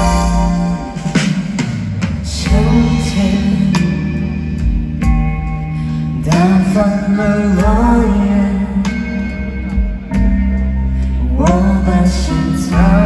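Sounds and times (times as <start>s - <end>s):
person singing: 0.0s - 1.4s, 2.2s - 13.0s
live pop band: 0.0s - 13.0s.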